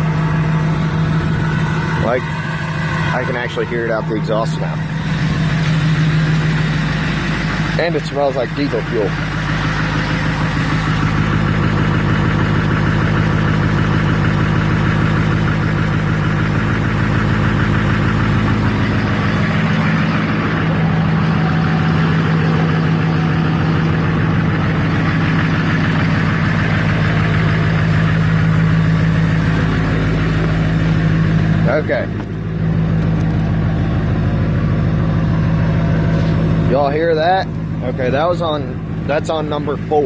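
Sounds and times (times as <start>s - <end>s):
diesel truck engine idling: 0.0s - 40.0s.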